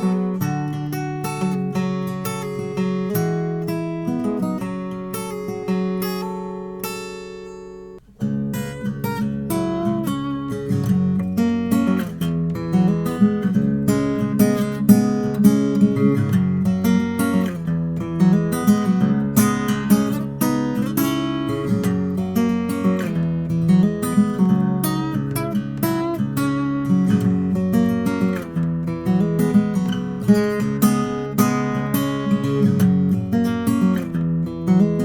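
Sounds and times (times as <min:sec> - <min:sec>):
acoustic guitar playing: 0:00.0 - 0:35.0.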